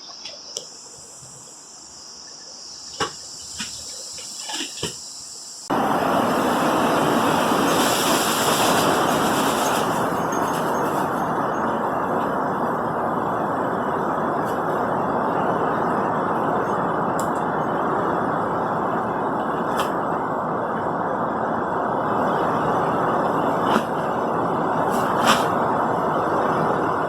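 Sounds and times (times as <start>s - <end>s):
strong wind through trees: 0.0s - 27.0s.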